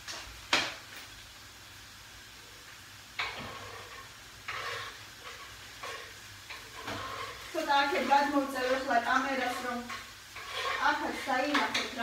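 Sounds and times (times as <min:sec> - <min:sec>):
carrot sizzling in a pan: 0:00.0 - 0:12.0.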